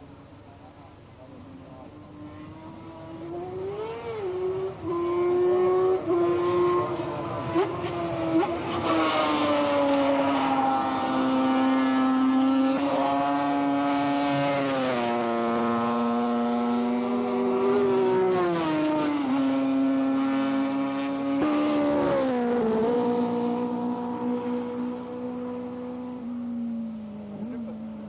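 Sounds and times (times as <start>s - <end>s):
motorcycle engine revving and shifting: 1.9s - 28.0s.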